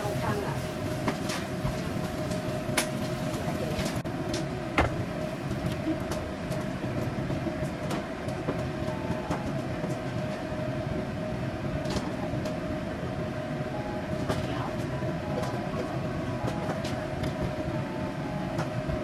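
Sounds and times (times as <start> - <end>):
low roar with hum: 0.0 - 19.0.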